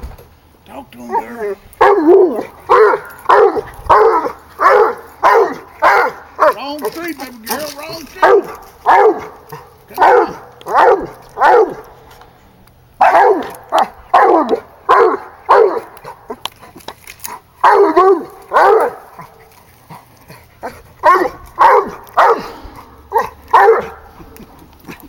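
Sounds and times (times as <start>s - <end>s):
hound baying: 1.0s - 12.0s, 13.0s - 25.0s.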